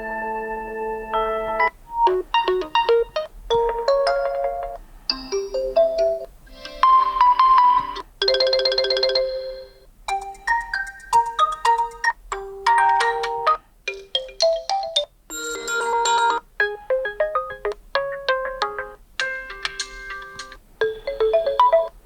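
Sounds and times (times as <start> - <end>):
smartphone alarm chiming melodies: 0.0 - 21.9.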